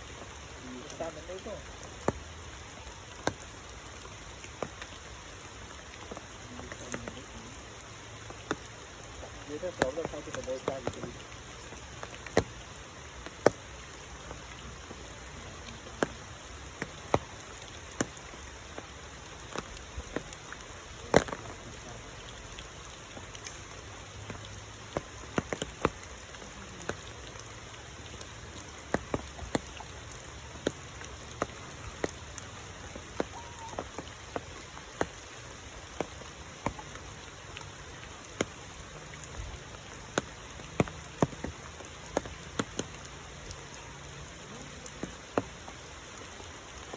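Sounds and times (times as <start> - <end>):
raindrops ticking on a surface: 0.0 - 46.9
steady rain falling: 0.0 - 46.9.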